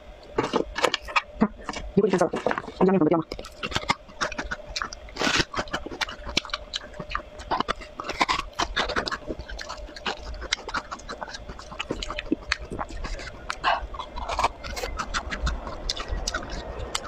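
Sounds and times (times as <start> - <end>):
crisp crunching and chewing: 0.0 - 17.0
crunchy bite into frozen cucumber: 3.3 - 17.0.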